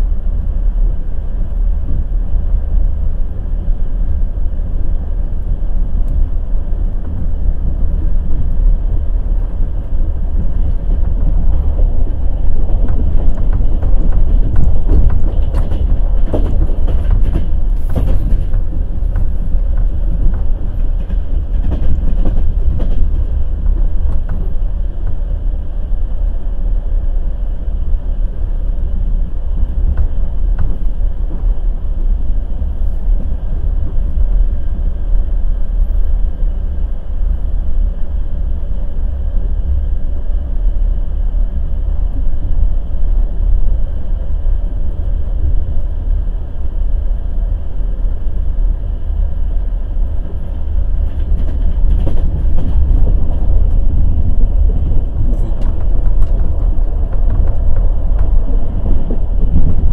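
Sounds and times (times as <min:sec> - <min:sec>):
low rumble of train coaches: 0:00.0 - 0:59.9.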